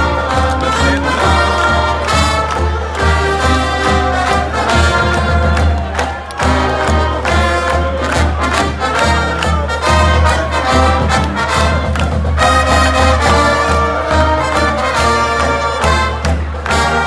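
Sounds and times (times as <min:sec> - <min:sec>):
brass band playing upbeat tune: 0:00.0 - 0:17.0.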